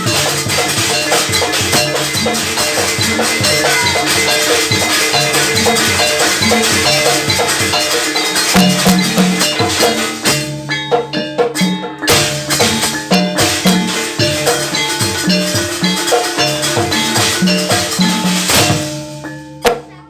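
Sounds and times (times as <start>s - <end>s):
gamelan ensemble playing: 0.0s - 20.0s
sharp percussion hit: 0.0s - 20.0s.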